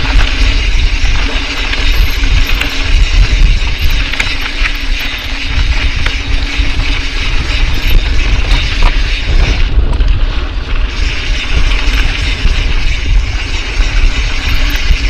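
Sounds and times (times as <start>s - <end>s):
bike rattling: 0.0s - 15.0s
bike tyre noise: 0.0s - 15.0s
freewheel ratchet buzzing: 0.0s - 15.0s
wind rumble on microphone: 0.0s - 15.0s.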